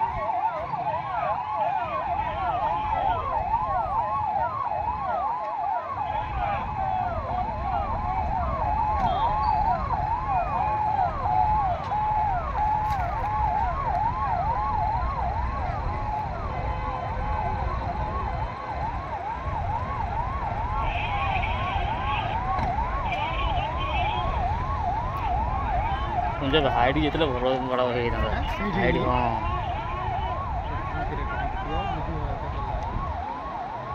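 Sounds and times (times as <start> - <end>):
sirens yelping: 0.0 - 33.9.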